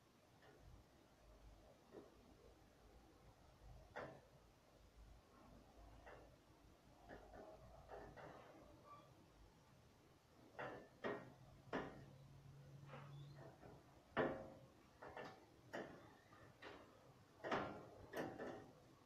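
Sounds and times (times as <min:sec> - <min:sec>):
faint knocks and clatters: 0:00.1 - 0:19.0.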